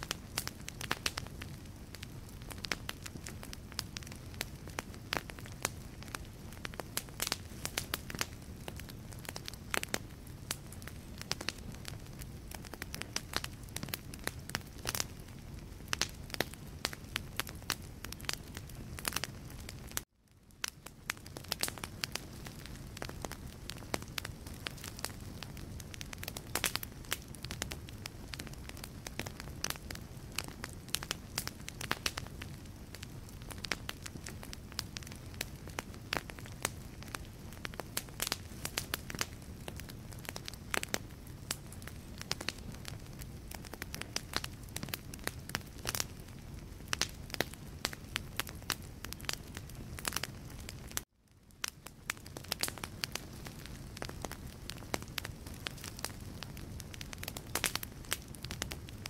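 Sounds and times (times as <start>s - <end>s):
logs crackling in a fireplace: 0.0s - 59.0s.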